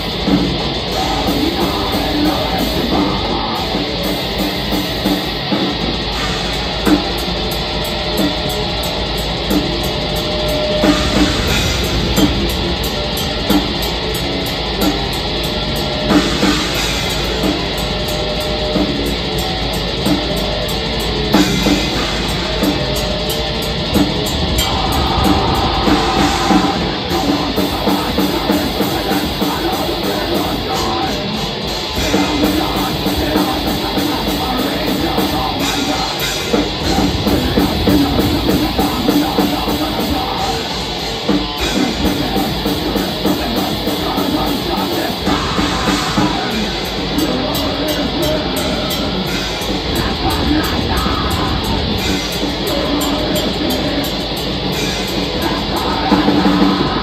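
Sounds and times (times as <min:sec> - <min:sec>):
fast drumming: 0:00.0 - 0:57.0
metal band playing live: 0:00.0 - 0:57.0.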